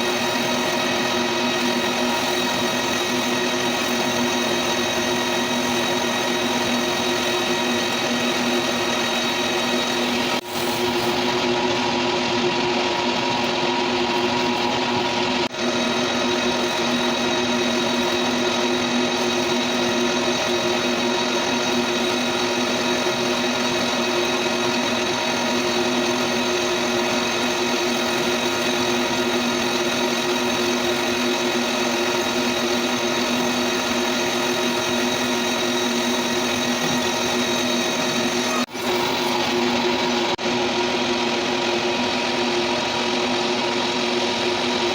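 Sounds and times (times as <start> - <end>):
metal lathe running: 0.0 - 44.9.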